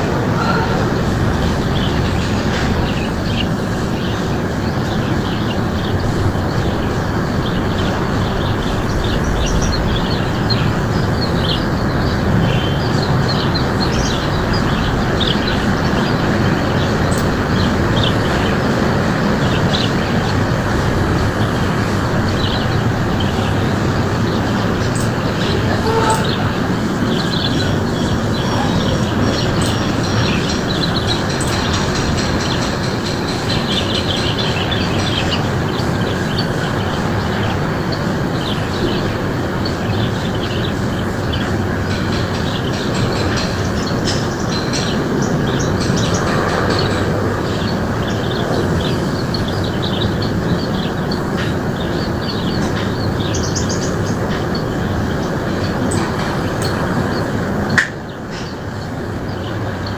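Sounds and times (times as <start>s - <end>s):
small birds chirping: 0.0s - 59.9s
steady rushing noise: 0.0s - 59.9s.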